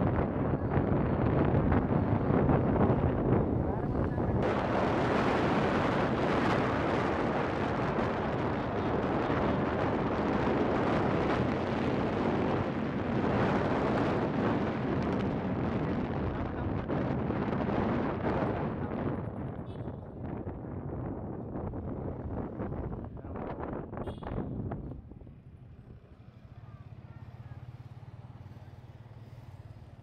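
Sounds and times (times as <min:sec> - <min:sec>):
wind rushing over microphone: 0:00.0 - 0:26.0
road noise: 0:00.0 - 0:30.0.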